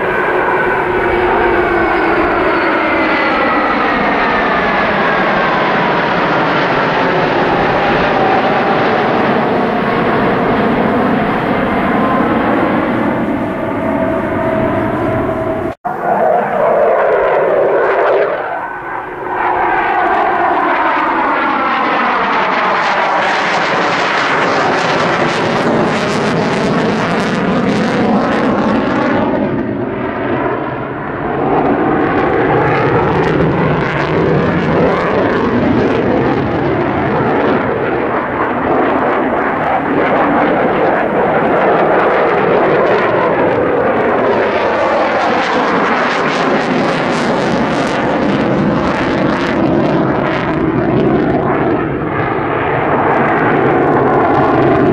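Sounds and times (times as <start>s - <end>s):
fighter jet engine roar: 0.0s - 54.9s.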